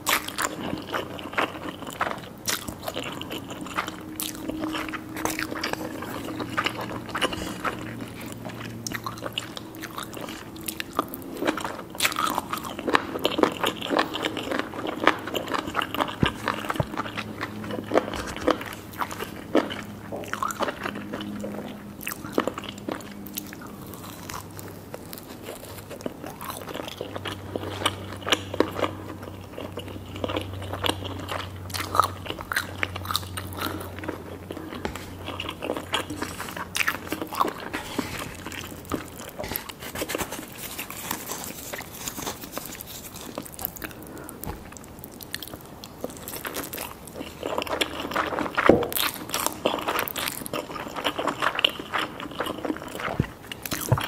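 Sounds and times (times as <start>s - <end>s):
chewing noodles: 0.0s - 54.0s
crunchy biting: 0.0s - 54.0s.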